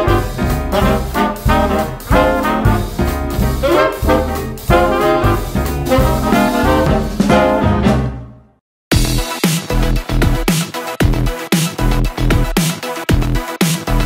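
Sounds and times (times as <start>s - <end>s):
swing music with brass: 0.0s - 14.0s.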